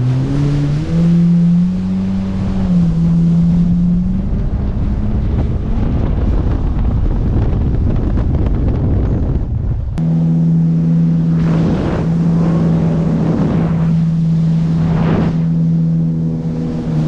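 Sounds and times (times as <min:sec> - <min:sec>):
engine humming: 0:00.0 - 0:17.0
wind buffeting microphone: 0:00.0 - 0:17.0.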